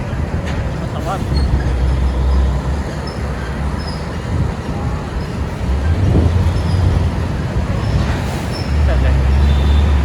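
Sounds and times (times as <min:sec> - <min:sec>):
road noise: 0:00.0 - 0:10.0
vehicle engine drone: 0:00.0 - 0:10.0.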